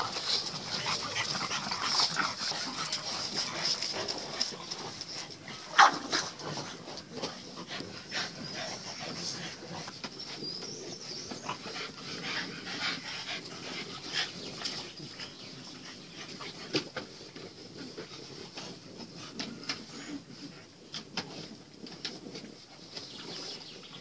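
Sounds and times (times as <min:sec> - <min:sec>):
puppies panting and snuffling: 0:00.0 - 0:24.0.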